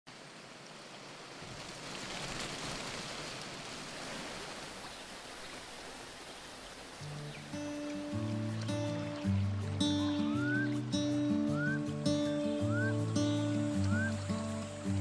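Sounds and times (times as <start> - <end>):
stream running over rocks: 0.1 - 15.0
waterfall rushing: 0.7 - 15.0.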